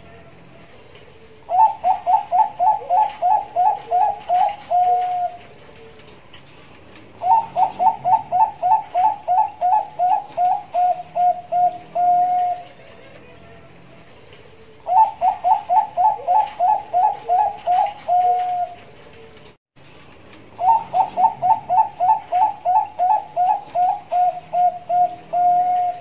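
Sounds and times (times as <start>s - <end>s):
dove cooing: 0.0s - 19.5s, 20.4s - 26.0s.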